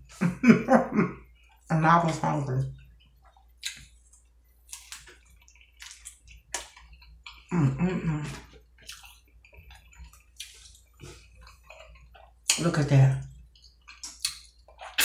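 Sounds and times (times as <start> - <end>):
wet chewing: 1.2 - 15.0.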